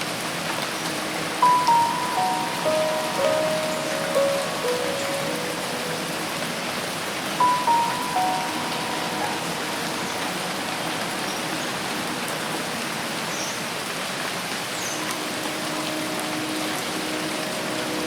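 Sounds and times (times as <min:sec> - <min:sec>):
rain on foliage: 0:00.0 - 0:18.0.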